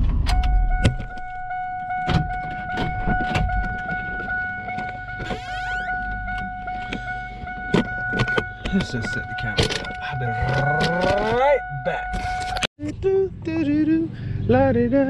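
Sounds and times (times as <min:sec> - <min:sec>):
engine rumble: 0:00.0 - 0:15.0
steady high tone: 0:00.3 - 0:12.7.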